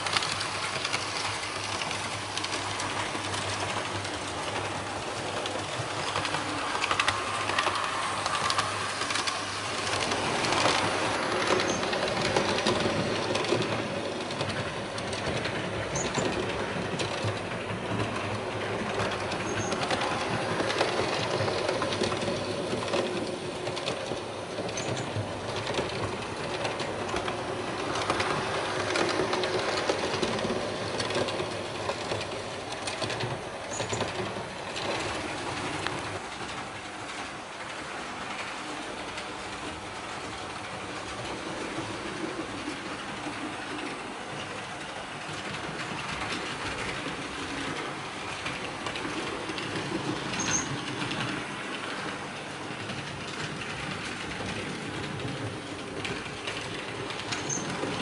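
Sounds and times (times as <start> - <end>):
model train rolling on track: 0.0 - 58.0
wheels clicking over rail joints: 0.0 - 58.0.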